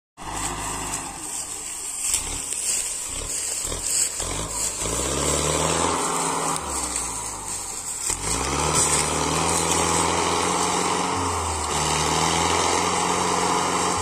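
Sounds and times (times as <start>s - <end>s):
tractor diesel engine under load: 0.2s - 14.0s.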